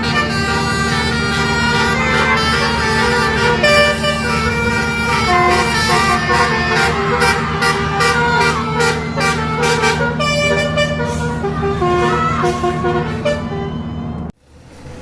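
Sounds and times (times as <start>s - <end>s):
musical bus air horn tune: 0.0s - 14.3s
steady low drone: 0.0s - 14.4s.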